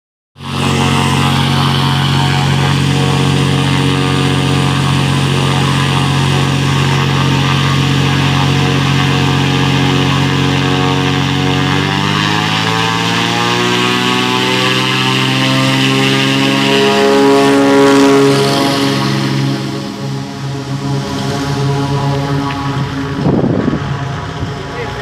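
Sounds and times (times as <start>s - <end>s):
propeller aircraft engine drone: 0.4s - 25.0s.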